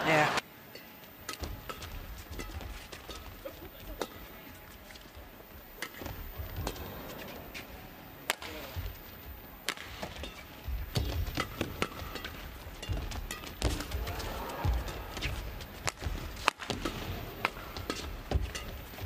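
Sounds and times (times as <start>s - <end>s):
rackets striking shuttlecock: 0.7s - 19.0s.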